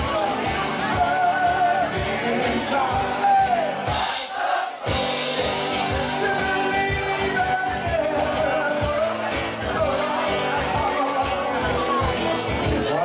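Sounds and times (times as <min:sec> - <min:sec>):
band playing a song: 0:00.0 - 0:13.0.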